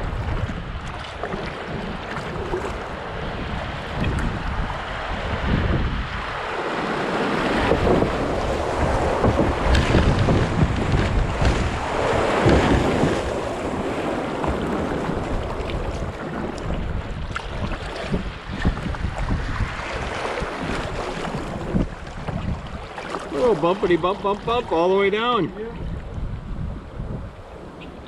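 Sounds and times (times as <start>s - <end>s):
water rushing and splashing: 0.0s - 26.4s
wind buffeting microphone: 0.0s - 28.0s.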